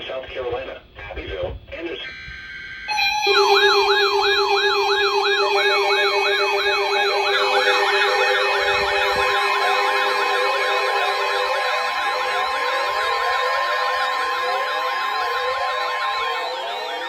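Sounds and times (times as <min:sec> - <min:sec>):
steady electronic tones: 0:02.0 - 0:17.0
electronic siren yelping: 0:02.1 - 0:17.0.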